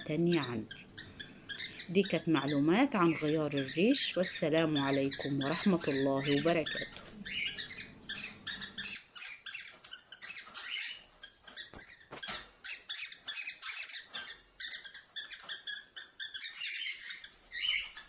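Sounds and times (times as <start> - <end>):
cockatiels chirping: 0.0 - 18.0.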